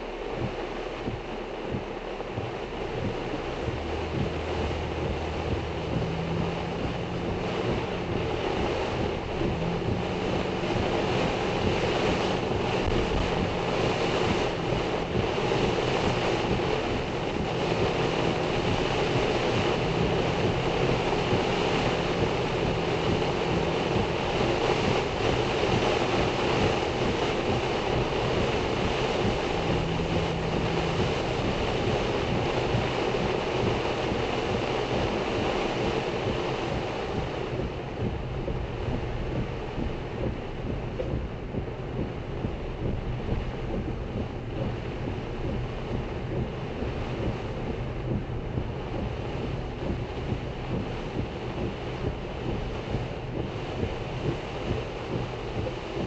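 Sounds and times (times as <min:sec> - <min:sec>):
gusting wind: 0:00.0 - 0:56.0
heavy rain on car roof: 0:00.0 - 0:56.0
low car hum: 0:00.0 - 0:56.0.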